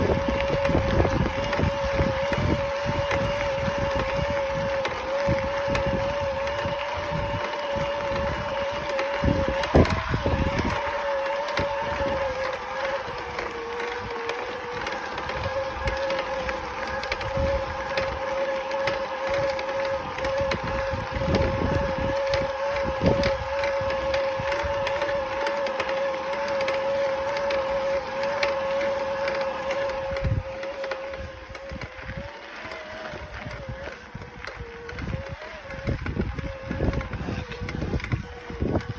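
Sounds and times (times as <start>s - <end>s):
wind buffeting microphone: 0.0s - 25.4s, 27.4s - 38.9s
bike creaking: 0.0s - 38.9s
electric bike motor whining: 0.0s - 38.9s.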